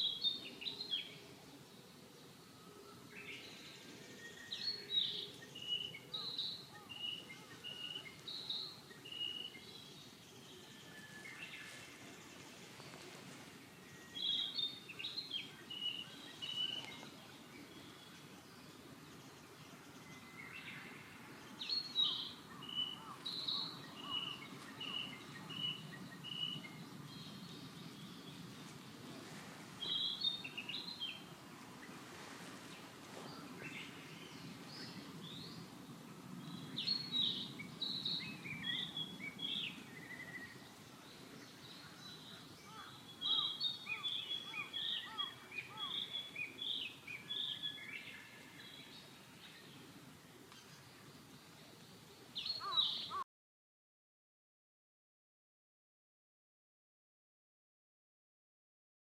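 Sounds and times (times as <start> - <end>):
low background noise: 0.0 - 53.2
songbird singing: 0.0 - 53.2.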